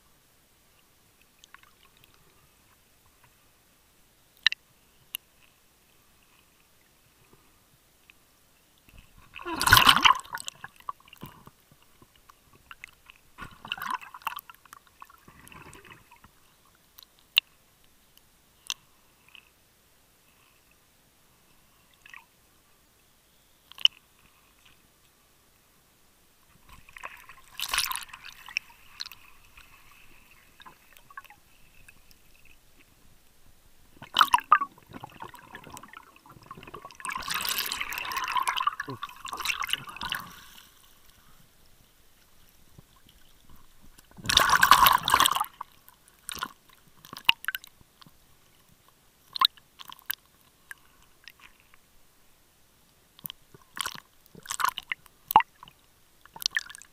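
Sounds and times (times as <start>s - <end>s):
underwater bubbling and sloshing: 0.3s - 22.6s, 23.6s - 56.9s.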